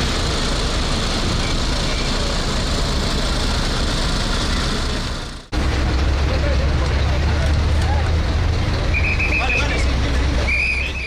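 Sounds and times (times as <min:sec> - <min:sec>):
fire engines running: 0:00.0 - 0:11.0.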